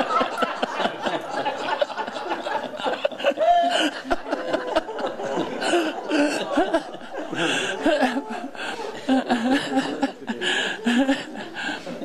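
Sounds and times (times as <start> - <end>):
group of people laughing: 0.0 - 12.0.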